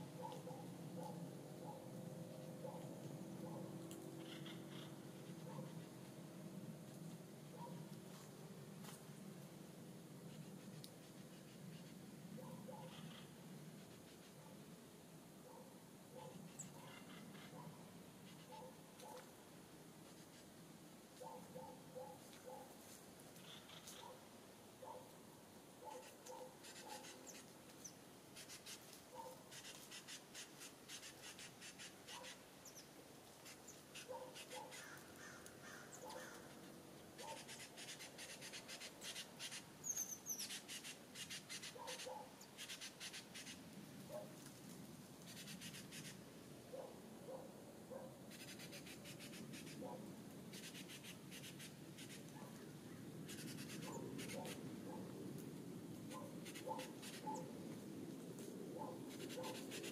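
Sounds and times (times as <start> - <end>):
wild birds chirping: 0.0 - 6.5, 10.3 - 14.7, 15.4 - 19.4, 21.2 - 22.7, 23.3 - 44.4, 45.2 - 55.1, 56.1 - 57.6, 58.8 - 59.9.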